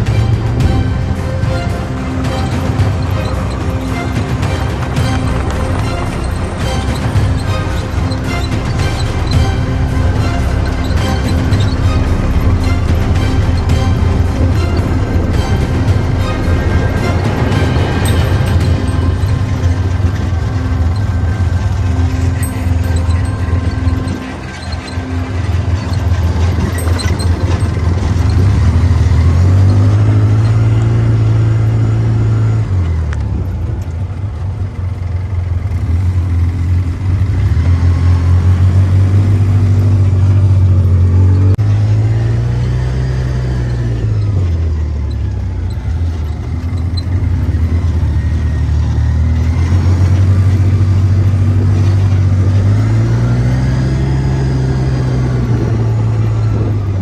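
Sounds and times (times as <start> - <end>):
vehicle engine revving: 0.0 - 57.0.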